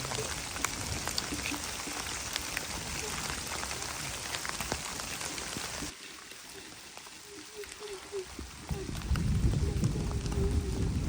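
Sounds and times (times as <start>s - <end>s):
raindrops ticking: 0.0s - 11.0s
steady rain falling: 0.0s - 11.0s.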